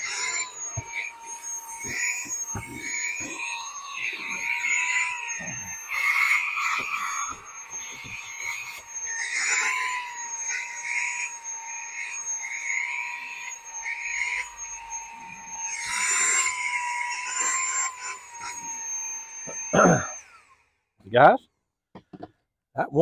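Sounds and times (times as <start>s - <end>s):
handheld vacuum cleaner motor whine: 0.0s - 21.0s.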